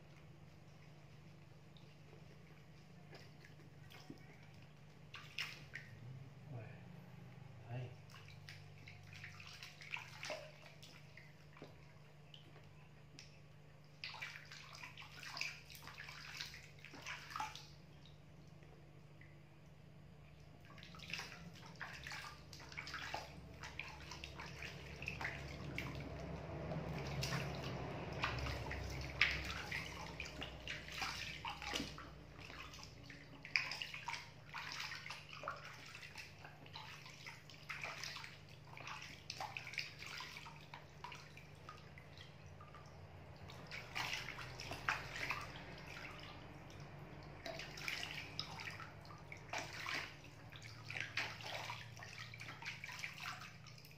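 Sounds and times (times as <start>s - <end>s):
water sloshing and splashing: 0.0s - 53.9s.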